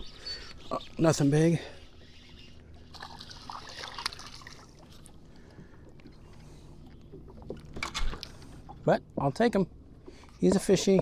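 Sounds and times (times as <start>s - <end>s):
low water noise: 0.0s - 11.0s.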